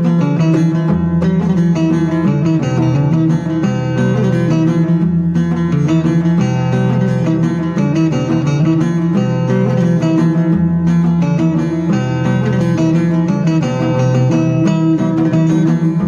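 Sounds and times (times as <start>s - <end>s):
plucked string instrument: 0.0s - 16.0s.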